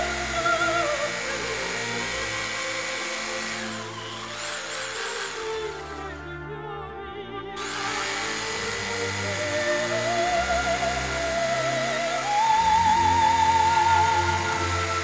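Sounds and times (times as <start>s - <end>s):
reciprocating saw cutting: 0.0s - 6.2s, 7.6s - 15.0s
opera-style music: 0.0s - 15.0s.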